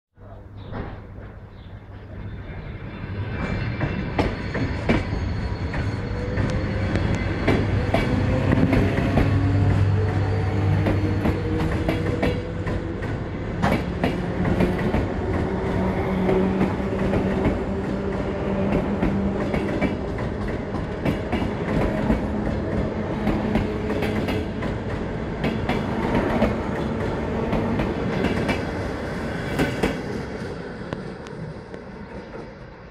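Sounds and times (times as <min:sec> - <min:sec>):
electric train motors whining: 0:02.4 - 0:32.1.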